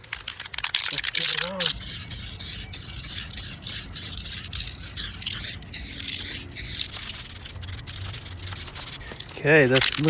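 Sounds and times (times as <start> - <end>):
spray can hissing: 0.7 - 9.2.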